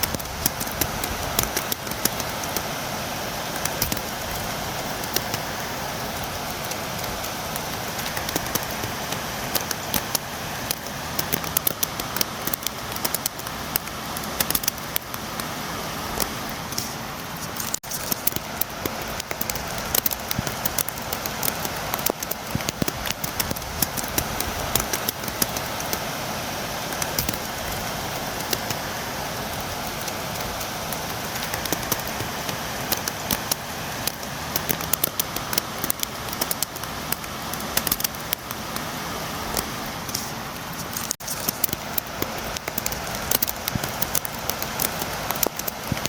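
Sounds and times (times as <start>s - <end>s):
raindrops tapping on a window: 0.0s - 46.0s
steady rain hiss: 0.0s - 46.0s.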